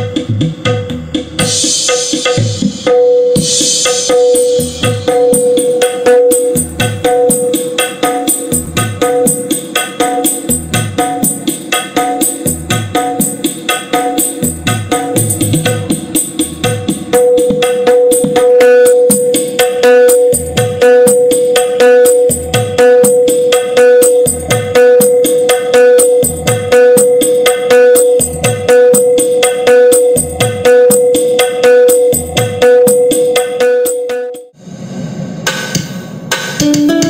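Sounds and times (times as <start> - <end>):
hand drum and tambourine music: 0.0 - 34.6, 36.3 - 37.0.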